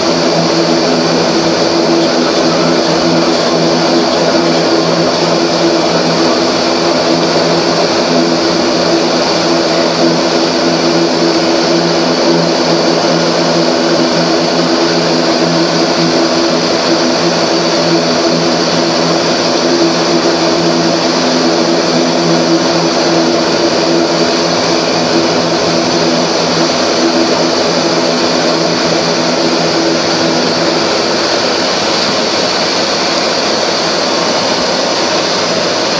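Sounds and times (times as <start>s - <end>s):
turboprop engines droning: 0.0s - 35.9s.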